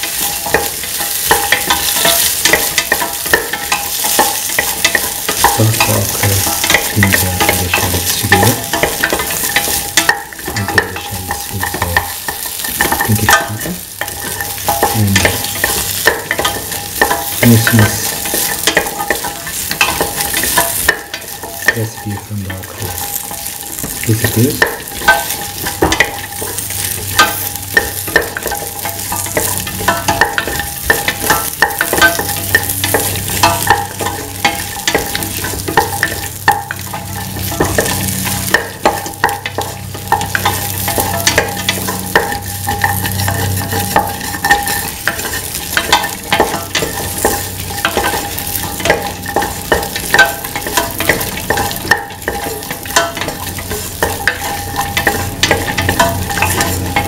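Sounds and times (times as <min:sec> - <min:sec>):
spatula scraping a pan: 0:00.0 - 0:57.0
vegetables sizzling in oil: 0:00.0 - 0:57.0.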